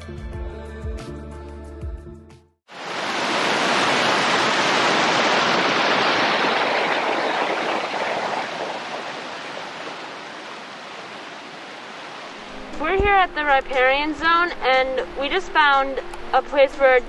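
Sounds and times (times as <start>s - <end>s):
stream water rushing: 2.7s - 17.0s.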